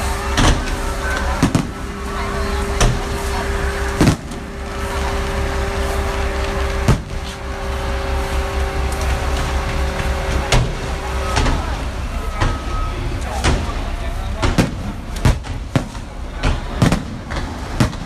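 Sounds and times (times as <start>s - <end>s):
fireworks bangs: 0.0s - 18.0s
steady hum and rumbling: 0.0s - 18.0s.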